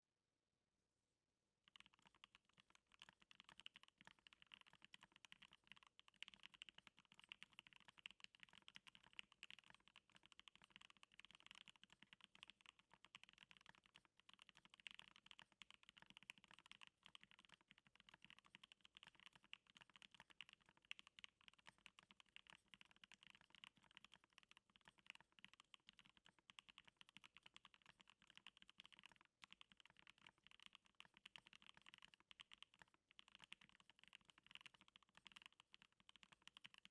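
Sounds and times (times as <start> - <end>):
fast mechanical keyboard typing: 1.7 - 36.9.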